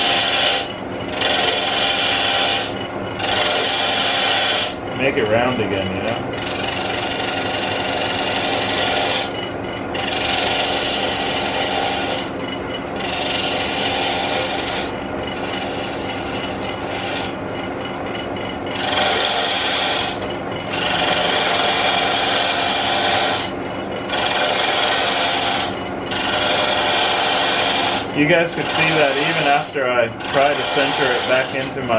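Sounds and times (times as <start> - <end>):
turning tool cutting wood: 0.0 - 4.8, 5.4 - 12.4, 13.0 - 17.4, 18.6 - 31.9
wood lathe humming: 0.0 - 31.9.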